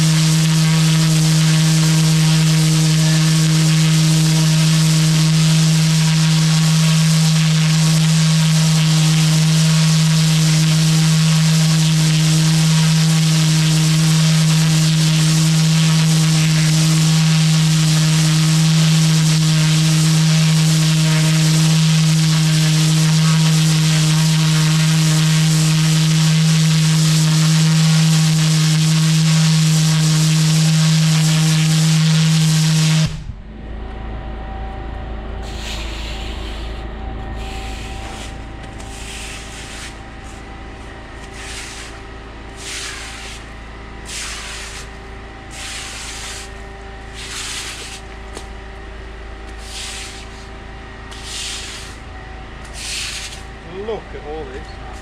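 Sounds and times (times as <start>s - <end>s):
push broom sweeping wet paving: 0.0s - 32.8s, 35.4s - 55.0s
pressure washer spraying: 0.0s - 33.1s, 35.4s - 36.8s, 37.4s - 48.5s, 49.5s - 55.0s.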